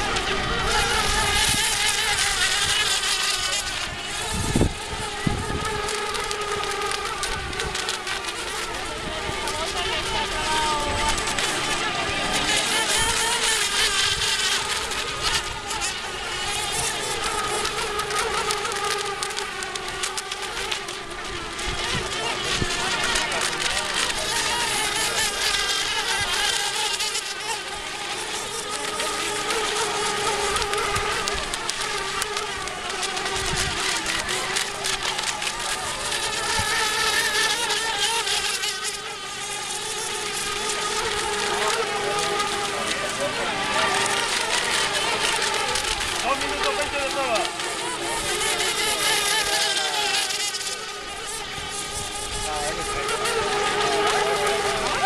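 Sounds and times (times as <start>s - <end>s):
hulls hissing on water: 0.0s - 55.0s
model boat motors whining: 0.0s - 55.0s.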